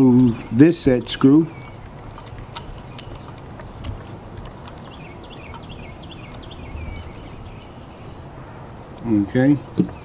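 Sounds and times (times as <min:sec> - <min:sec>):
high downward-sliding chirps: 0:00.5 - 0:08.8.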